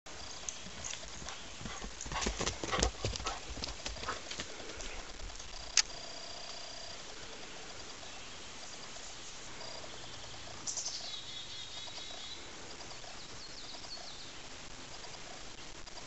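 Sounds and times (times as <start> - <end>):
steady outdoor hiss: 0.1 - 16.0.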